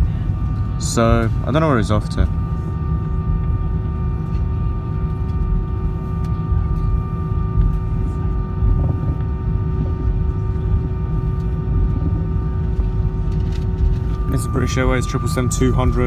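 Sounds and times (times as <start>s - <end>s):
aircraft cabin engine rumble: 0.0s - 16.0s
pitched engine hum: 0.0s - 16.0s.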